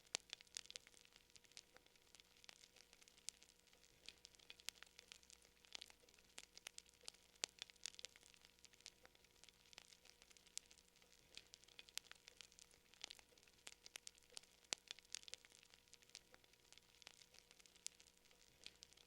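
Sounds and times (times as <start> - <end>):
fire crackling: 0.0 - 19.0
low hiss: 0.0 - 19.0.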